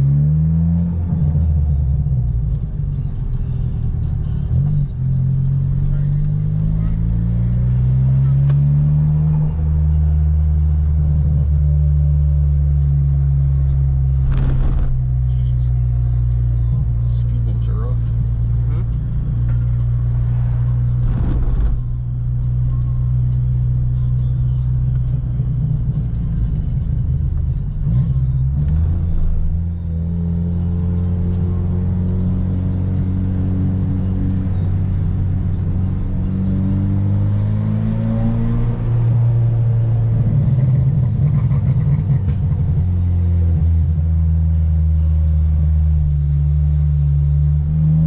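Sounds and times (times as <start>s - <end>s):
car engine accelerating: 0.0s - 48.0s
road rumble inside car: 0.0s - 48.0s.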